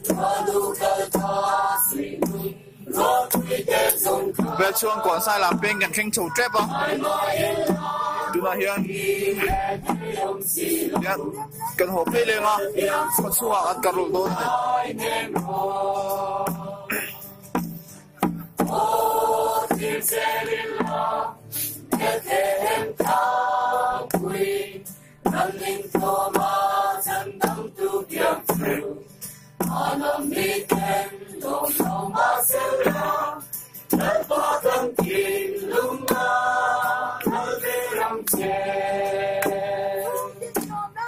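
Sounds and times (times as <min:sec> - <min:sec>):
group of voices singing a carol: 0:00.0 - 0:41.0.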